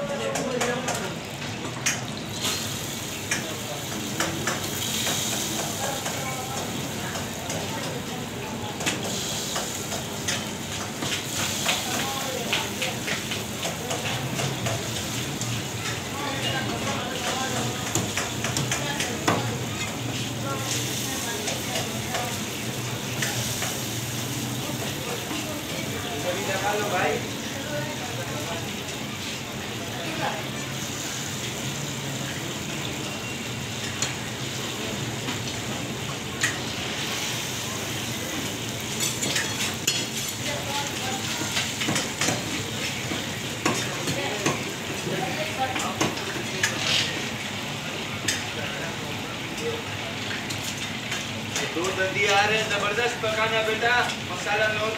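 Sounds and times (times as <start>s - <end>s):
fish deep-frying in oil: 0.0s - 54.9s.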